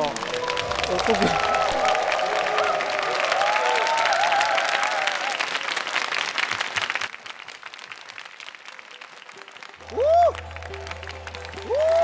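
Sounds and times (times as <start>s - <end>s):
studio audience applauding: 0.0s - 12.0s.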